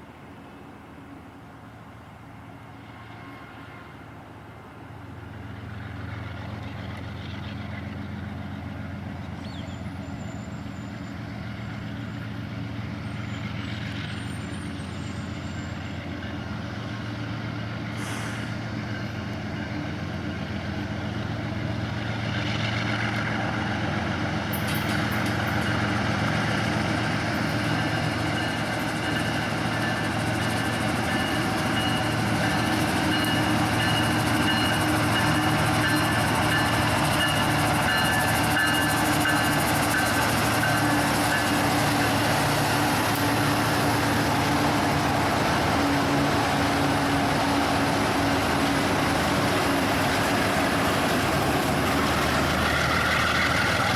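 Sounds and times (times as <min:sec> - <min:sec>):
diesel locomotive engine hum: 0:00.0 - 0:53.9
wheels hissing on rail: 0:04.8 - 0:53.9.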